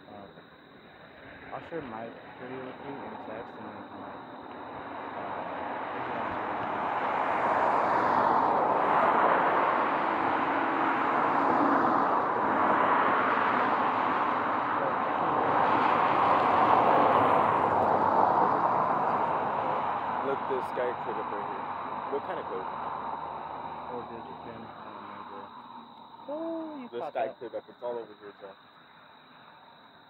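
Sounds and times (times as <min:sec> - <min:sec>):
cars passing: 0:00.0 - 0:30.0.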